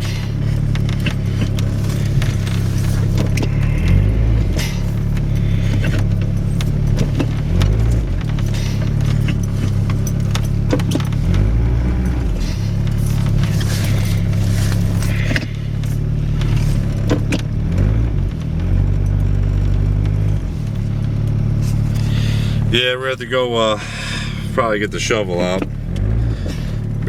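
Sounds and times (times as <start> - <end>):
clicks and crunches: 0.0 - 22.6
truck engine revving: 0.0 - 27.0.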